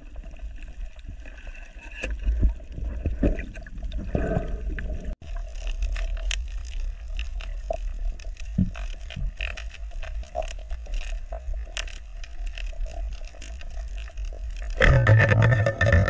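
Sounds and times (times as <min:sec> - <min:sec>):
underwater clicks and crackles: 0:00.0 - 0:16.0
underwater rumble: 0:00.0 - 0:16.0.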